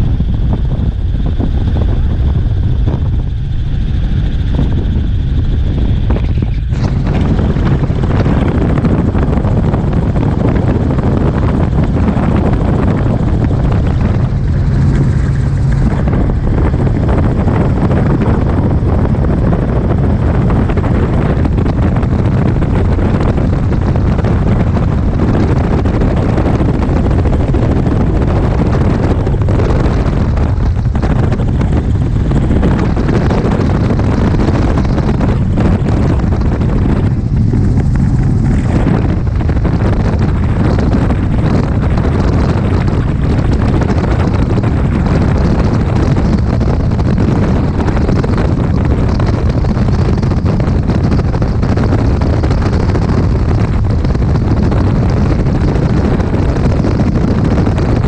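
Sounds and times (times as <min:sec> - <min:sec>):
helicopter engine and rotor: 0:00.0 - 0:58.0
wind buffeting microphone: 0:00.0 - 0:58.0.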